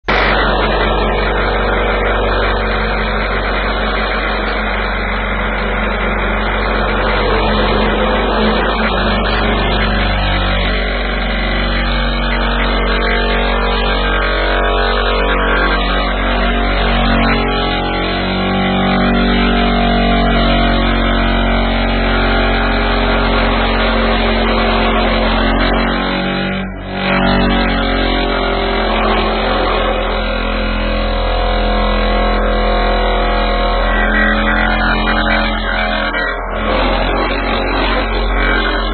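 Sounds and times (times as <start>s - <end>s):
excavator engine: 0.0s - 38.9s
vibratory hammer driving piles: 0.0s - 38.9s.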